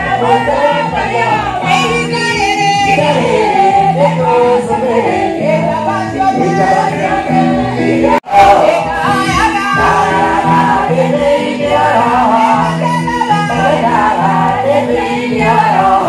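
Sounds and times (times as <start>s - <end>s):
keyboard playing rhythm with bass: 0.0s - 16.0s
voices singing: 0.0s - 16.0s.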